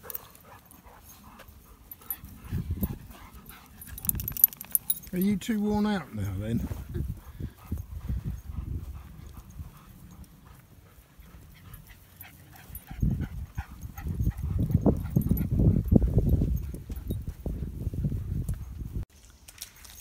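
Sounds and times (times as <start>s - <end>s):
dog panting: 0.0s - 18.8s.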